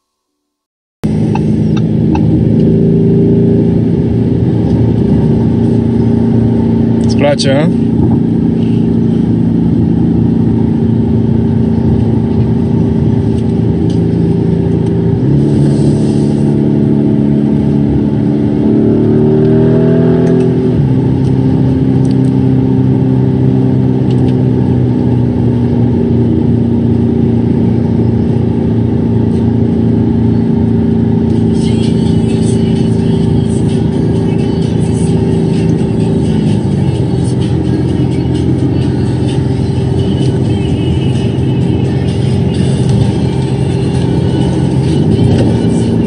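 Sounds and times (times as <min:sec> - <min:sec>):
car engine drone: 0:01.0 - 0:46.0
road noise: 0:01.0 - 0:46.0.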